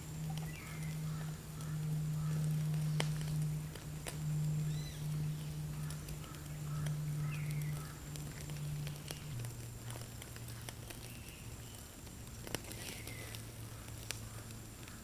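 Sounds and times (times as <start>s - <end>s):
fire crackling and popping: 0.0s - 15.0s
low steady hum: 0.0s - 15.0s
small birds chirping: 0.0s - 15.0s.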